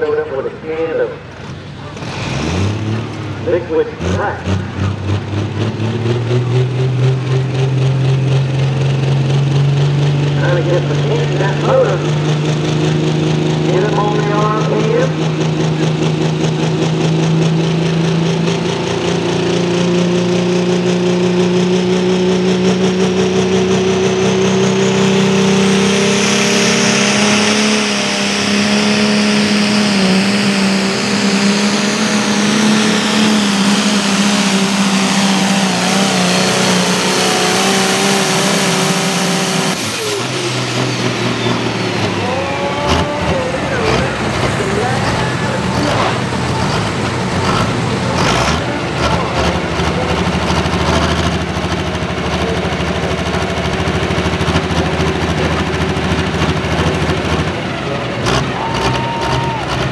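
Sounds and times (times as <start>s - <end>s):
diesel engine at full throttle: 0.0s - 59.9s
high turbo whine: 0.0s - 59.9s.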